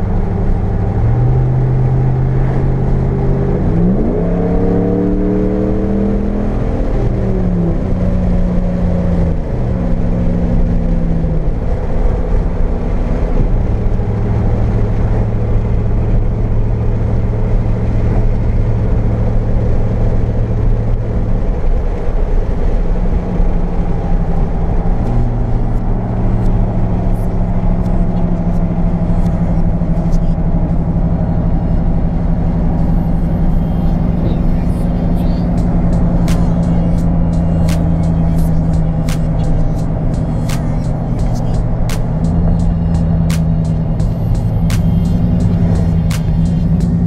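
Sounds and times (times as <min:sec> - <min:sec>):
pickup truck engine shifting gears: 0:00.0 - 0:47.0.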